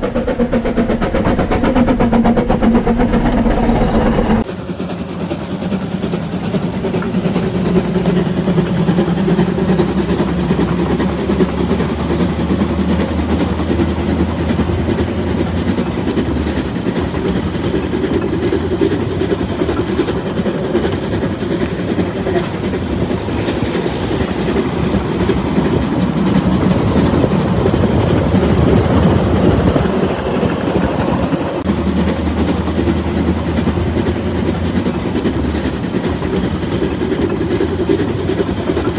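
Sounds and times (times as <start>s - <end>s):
steam train running on track: 0.0s - 38.9s.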